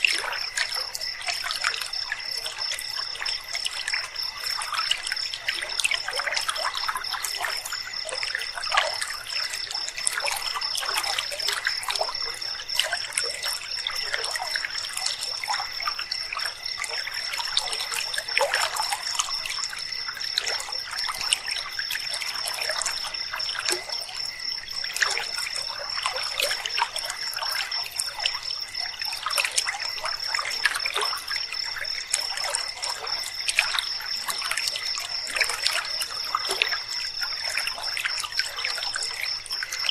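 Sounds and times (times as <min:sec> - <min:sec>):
night insects trilling: 0:00.0 - 0:39.9
river water trickling and splashing: 0:00.0 - 0:39.9.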